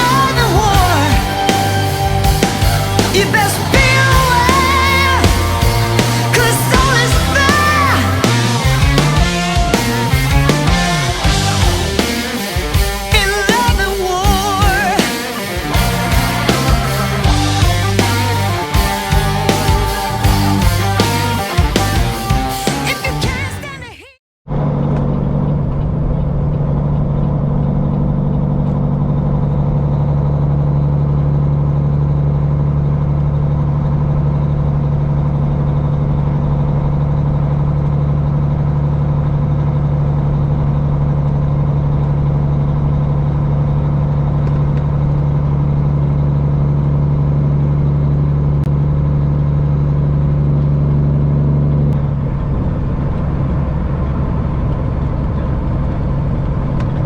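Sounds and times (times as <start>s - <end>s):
truck diesel engine droning: 0.0s - 23.8s, 24.5s - 57.0s.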